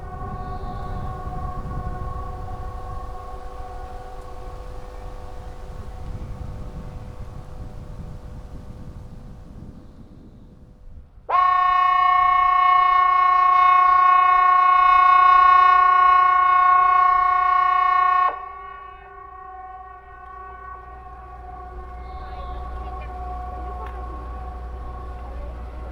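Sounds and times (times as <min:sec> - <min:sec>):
alarm siren multi-tone blast: 0:00.0 - 0:10.0, 0:11.3 - 0:25.9
fainter distant siren: 0:00.0 - 0:25.9.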